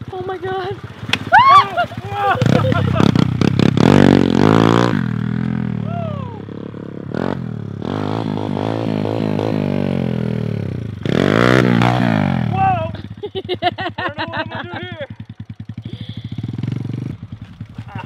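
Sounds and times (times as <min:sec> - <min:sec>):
pit bike engine revving: 0:00.0 - 0:18.0.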